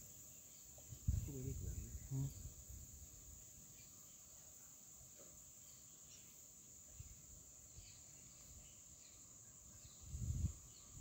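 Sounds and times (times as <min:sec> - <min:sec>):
faint high insect chorus: 0:00.0 - 0:11.0.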